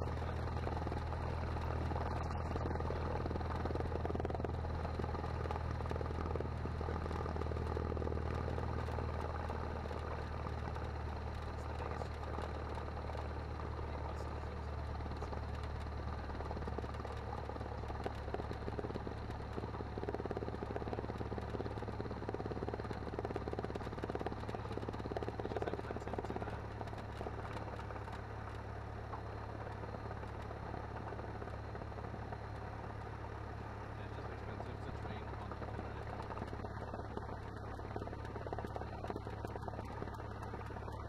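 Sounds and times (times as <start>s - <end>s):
propeller plane engine droning: 0.0s - 41.0s
rattling and crackle: 0.0s - 41.0s.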